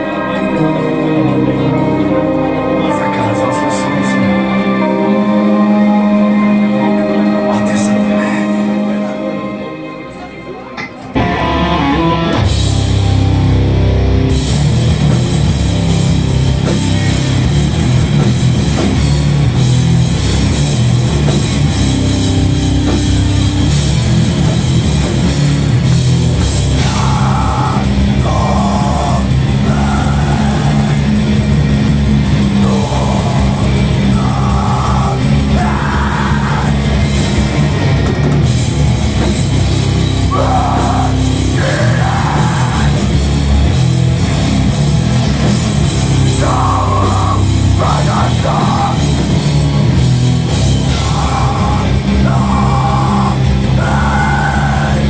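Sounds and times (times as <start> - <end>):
rock band playing electric guitars: 0.0 - 55.0.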